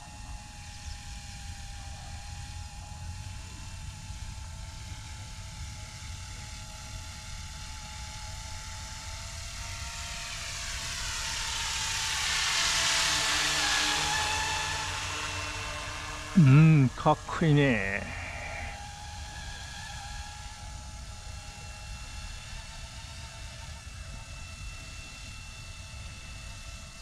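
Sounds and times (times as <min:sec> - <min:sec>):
rc helicopter rotor whine: 0:00.0 - 0:27.0.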